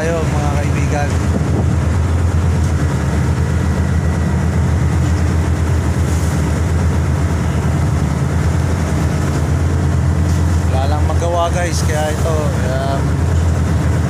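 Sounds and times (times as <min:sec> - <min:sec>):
ship machinery droning: 0:00.0 - 0:14.0.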